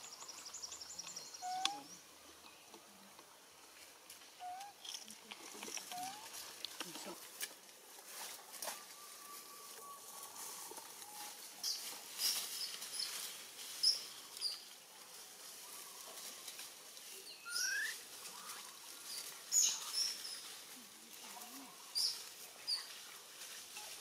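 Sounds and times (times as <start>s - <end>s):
dry leaves crackling and rustling: 3.7s - 24.0s.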